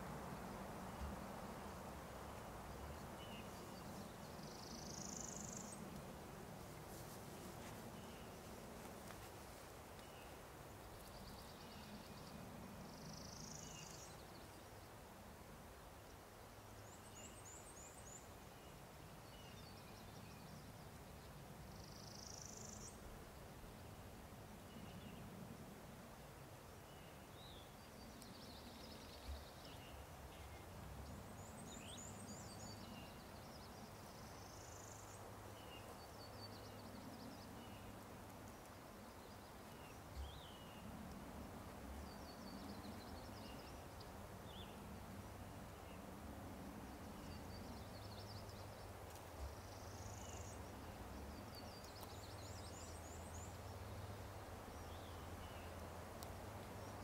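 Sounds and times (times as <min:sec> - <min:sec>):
songbirds chirping and trilling: 0:00.0 - 0:15.0, 0:26.2 - 0:57.0.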